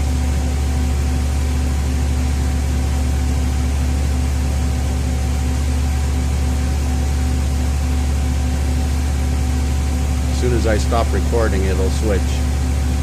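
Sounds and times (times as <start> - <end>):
radiator cooling fan rushing: 0.0 - 13.0.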